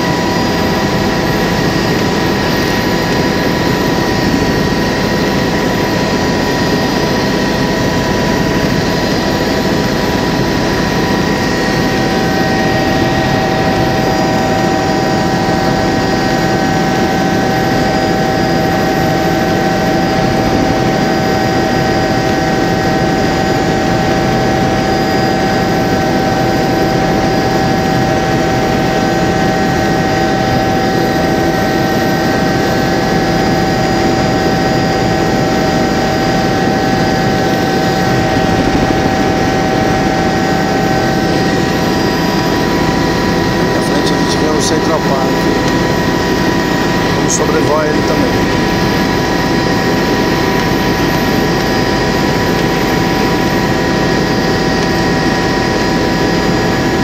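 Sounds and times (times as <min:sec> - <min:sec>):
constant high whine: 0:00.0 - 0:57.0
helicopter engine and rotor drone: 0:00.0 - 0:57.0.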